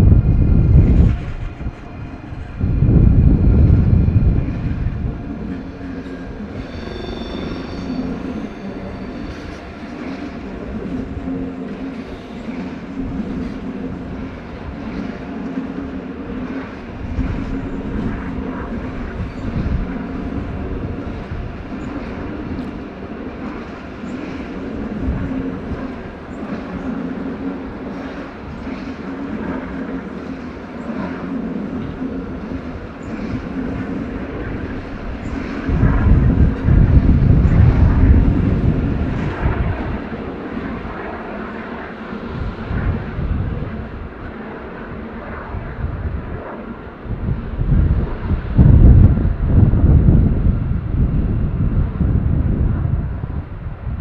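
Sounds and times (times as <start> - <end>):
high whine: 0.0 - 54.0
train low mechanical hum: 0.0 - 54.0.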